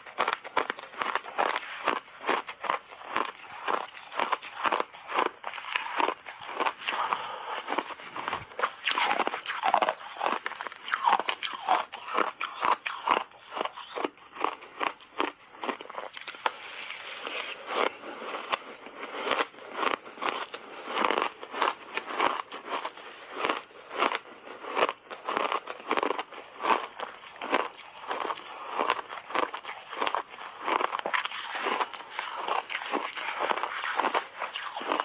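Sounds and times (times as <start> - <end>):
crunchy ice being chewed: 0.0 - 35.0.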